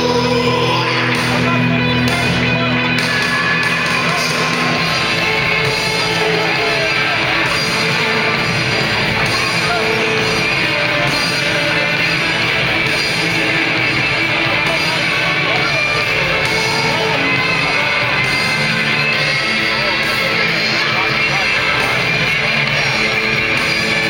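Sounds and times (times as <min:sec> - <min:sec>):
rock music with distorted guitar: 0:00.0 - 0:24.0.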